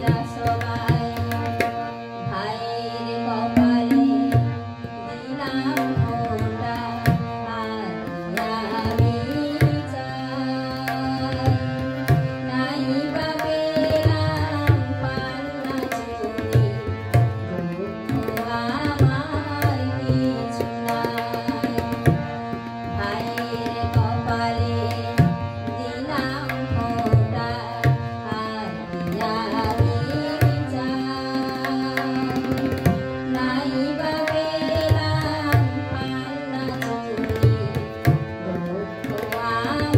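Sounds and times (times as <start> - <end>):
harmonium: 0.0 - 39.9
tabla rhythm: 0.0 - 39.9
woman singing: 0.0 - 39.9.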